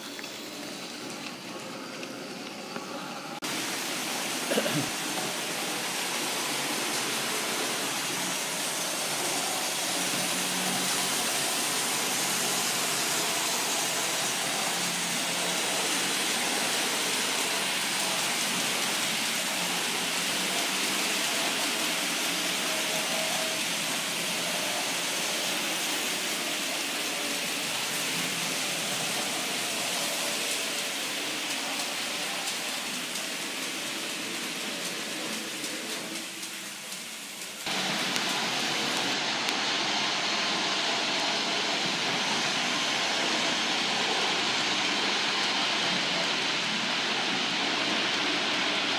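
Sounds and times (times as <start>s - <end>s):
model train wheels on rails: 0.0s - 48.9s.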